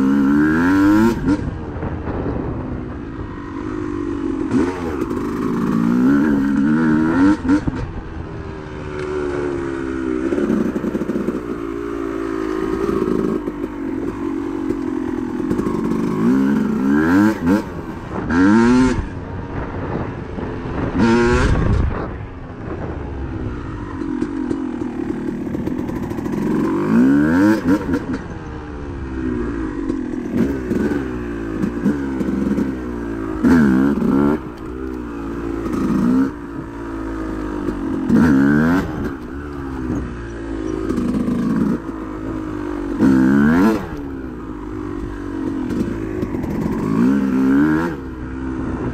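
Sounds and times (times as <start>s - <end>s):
dirt bike engine revving: 0.0s - 2.4s, 3.2s - 22.8s, 23.4s - 48.9s.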